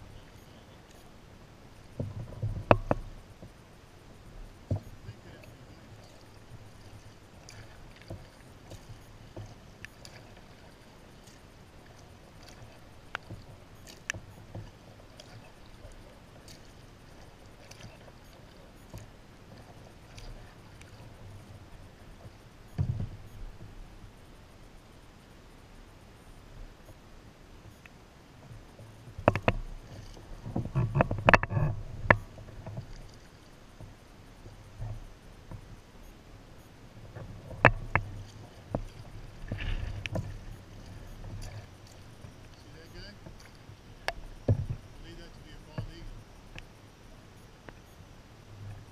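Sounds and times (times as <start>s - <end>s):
kayak paddle strokes in water: 0.0s - 48.9s.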